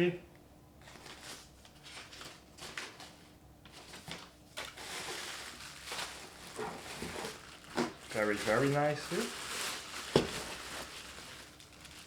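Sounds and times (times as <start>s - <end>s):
packing material rustling: 0.8s - 3.2s, 3.8s - 12.0s.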